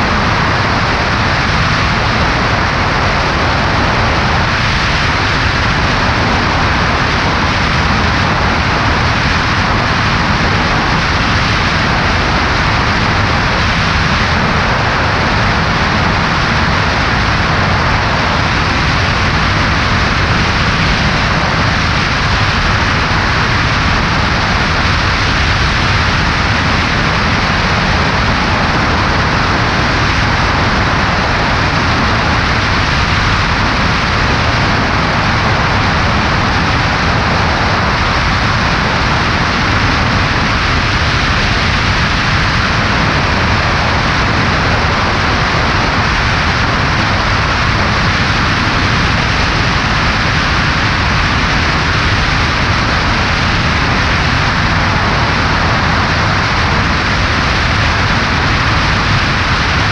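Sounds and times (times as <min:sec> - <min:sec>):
aircraft engine and propeller drone: 0:00.0 - 0:59.9
airflow rushing over camera: 0:00.0 - 0:59.9.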